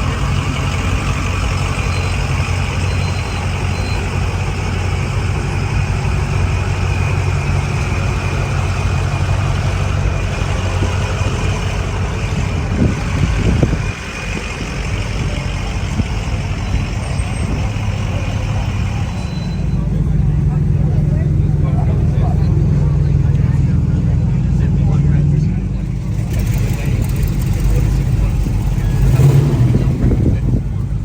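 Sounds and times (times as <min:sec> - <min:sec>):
car engine idling: 0:00.0 - 0:31.0
car engine revving: 0:00.0 - 0:31.0.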